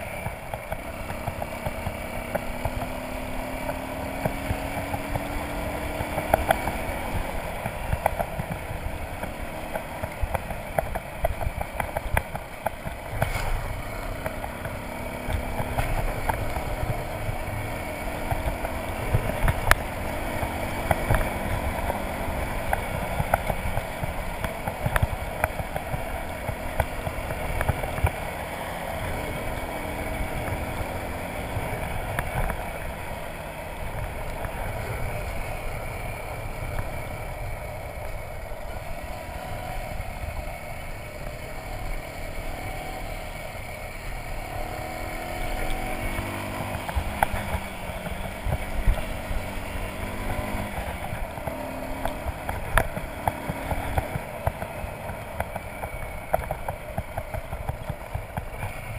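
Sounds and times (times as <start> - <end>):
motorcycle engine running: 0.0 - 58.9
wind and tyres on gravel: 0.0 - 58.9.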